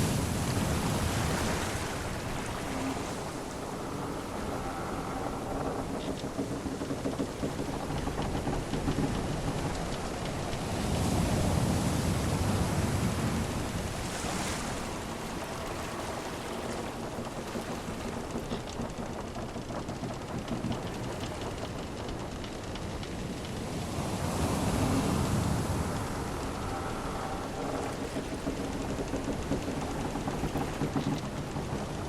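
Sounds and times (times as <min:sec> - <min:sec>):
sea waves washing: 0:00.0 - 0:32.0.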